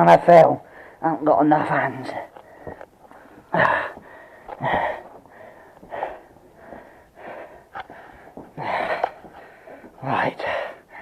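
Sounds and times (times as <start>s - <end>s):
man breathing hard: 0.6s - 1.0s, 2.1s - 11.0s.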